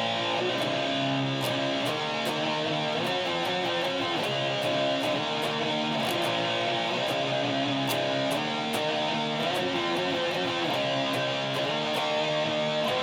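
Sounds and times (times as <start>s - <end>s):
guitar playing heavy metal: 0.0s - 13.0s.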